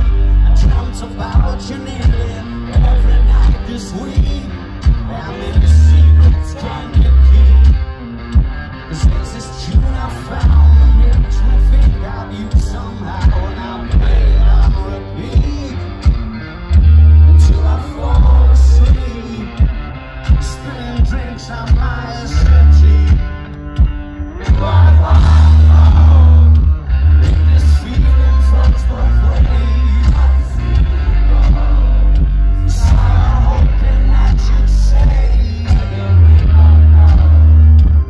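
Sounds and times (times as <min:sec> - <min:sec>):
steady drum beat: 0:00.0 - 0:07.8, 0:08.4 - 0:38.0
man singing: 0:00.0 - 0:08.0, 0:08.8 - 0:16.2, 0:17.2 - 0:23.4, 0:24.4 - 0:37.8
electric guitar: 0:00.0 - 0:38.0
heavy booming bass: 0:00.0 - 0:38.0.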